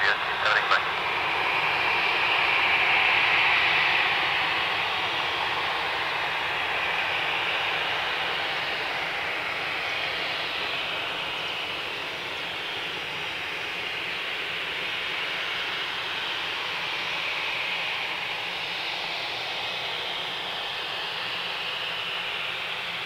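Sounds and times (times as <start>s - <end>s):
jet engines whining while taxiing: 0.0s - 23.0s.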